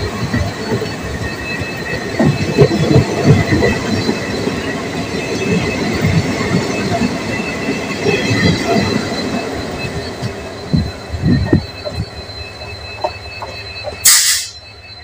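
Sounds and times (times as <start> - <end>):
high-pitched squeal: 0.0 - 15.0
train wheels rumbling and knocking: 0.0 - 15.0.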